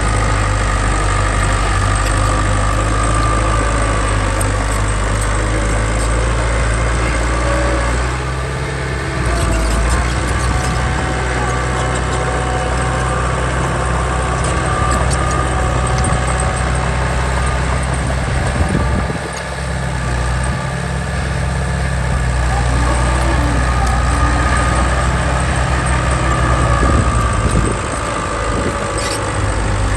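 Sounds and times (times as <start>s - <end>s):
heavy diesel engine running: 0.0s - 29.9s.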